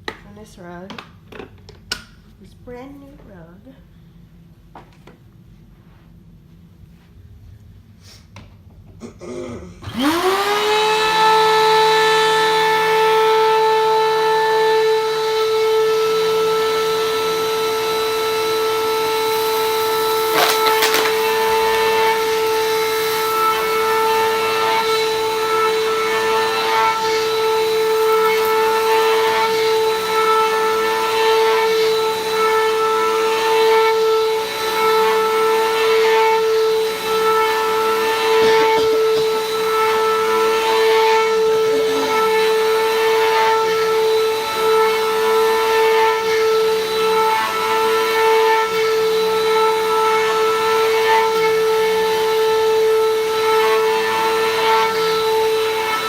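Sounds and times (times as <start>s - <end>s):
vacuum cleaner whining: 8.3s - 56.0s.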